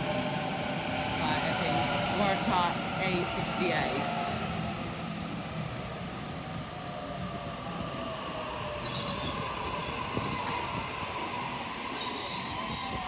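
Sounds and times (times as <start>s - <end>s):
electric train whine: 0.0s - 13.0s
train carriages rumbling over rails: 0.0s - 13.0s.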